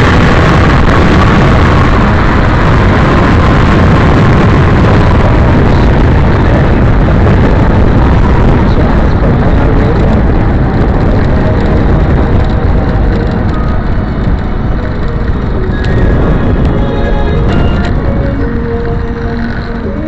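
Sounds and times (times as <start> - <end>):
road and passing traffic: 0.0 - 20.0
wind buffeting microphone: 0.0 - 20.0.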